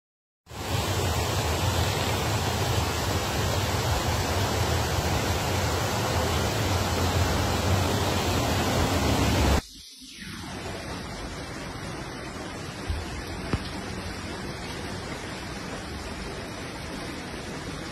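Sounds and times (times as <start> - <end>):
torrential rain and floodwater rushing: 0.5 - 9.7, 10.6 - 17.9.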